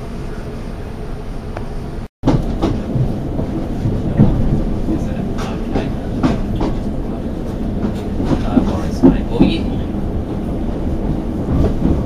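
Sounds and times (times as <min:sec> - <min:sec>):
train wheels rumbling on rail: 0:00.0 - 0:12.0
clanks over rail joints: 0:02.2 - 0:12.0.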